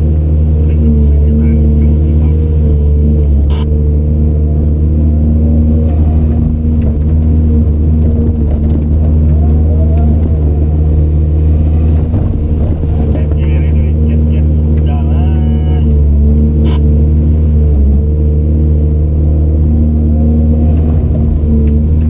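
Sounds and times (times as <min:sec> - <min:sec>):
faint whine: 0:00.0 - 0:22.0
heavy diesel machinery engine: 0:00.0 - 0:22.0.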